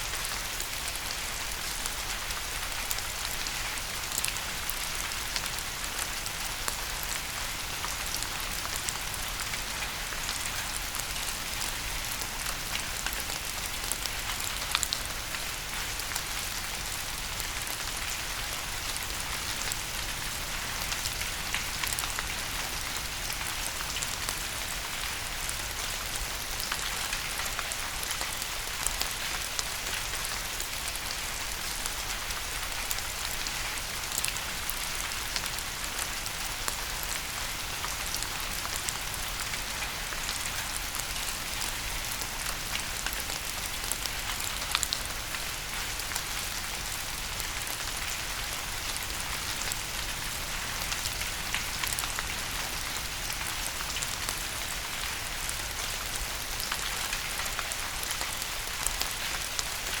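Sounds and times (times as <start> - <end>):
steady rain falling: 0.0 - 60.0
raindrops ticking on a surface: 0.1 - 60.0.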